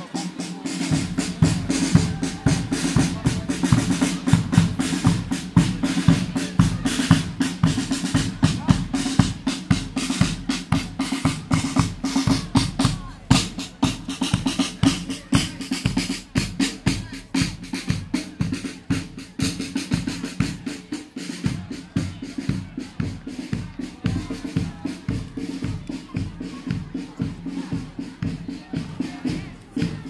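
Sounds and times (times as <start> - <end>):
crowd voices: 0.0 - 30.0
marching brass band: 0.0 - 30.0
snare and bass drums: 0.0 - 30.0.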